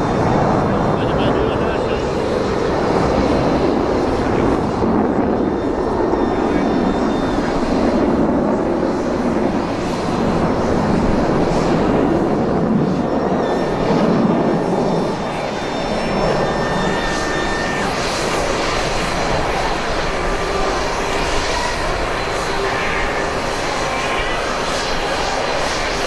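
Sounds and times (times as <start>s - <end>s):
jet aircraft roar: 0.0s - 26.0s.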